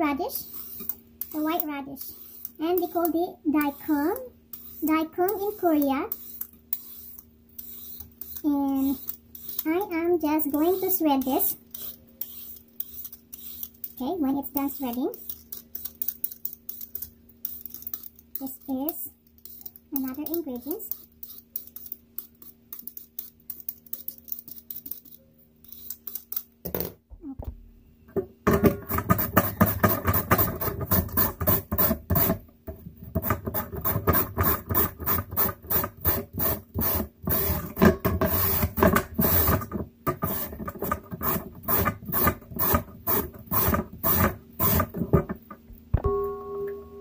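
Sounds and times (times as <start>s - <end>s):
hand peeler peeling radish: 0.2s - 18.7s, 19.4s - 26.5s, 28.8s - 32.4s, 33.0s - 45.1s.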